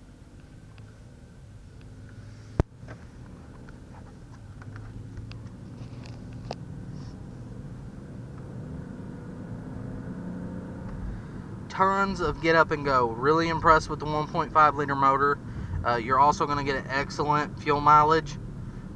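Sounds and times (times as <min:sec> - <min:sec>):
car engine and tyres humming: 0:00.0 - 0:18.9.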